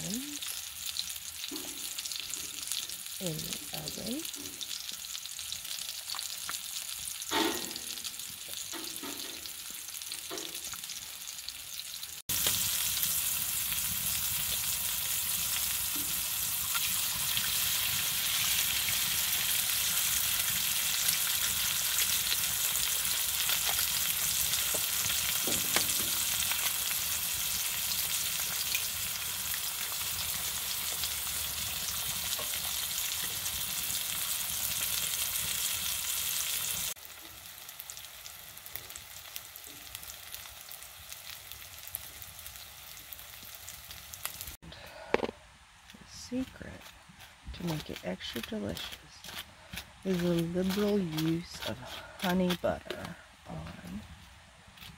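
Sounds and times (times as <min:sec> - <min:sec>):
food sizzling in a pan: 0:00.0 - 0:44.6.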